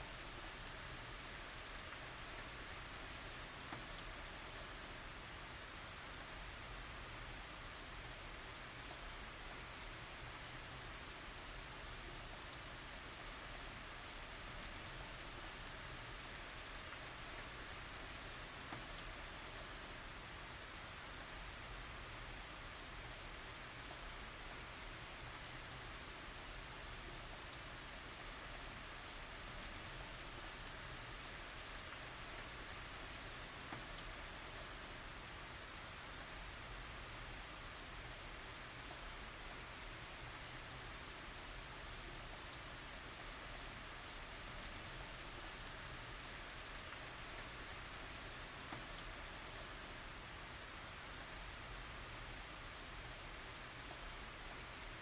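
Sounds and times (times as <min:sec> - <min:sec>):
rain falling on surfaces: 0:00.0 - 0:55.0.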